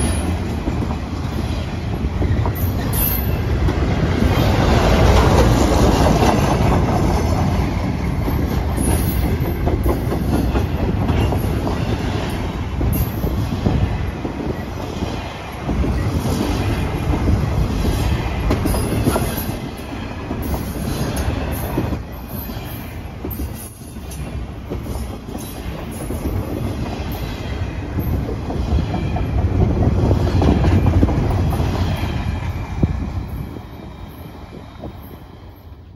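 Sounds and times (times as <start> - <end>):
wheels clacking over rail joints: 0.0 - 33.9
freight train rumbling past: 0.0 - 35.9.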